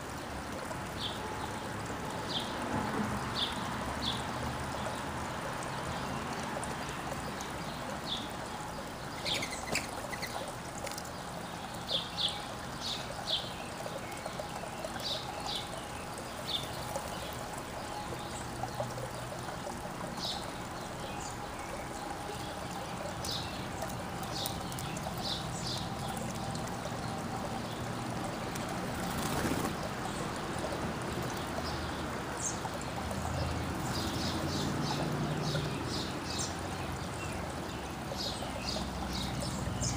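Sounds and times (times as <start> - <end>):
small birds chirping: 5.8 - 39.9.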